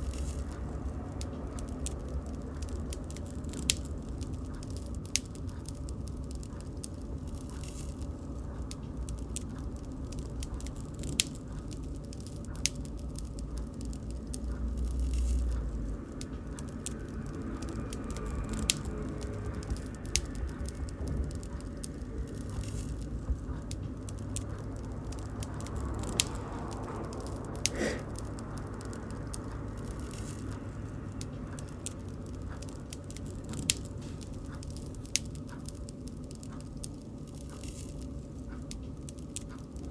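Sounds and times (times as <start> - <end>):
fire pops and snaps: 0.0 - 39.9
low rumble of flames: 0.0 - 39.9.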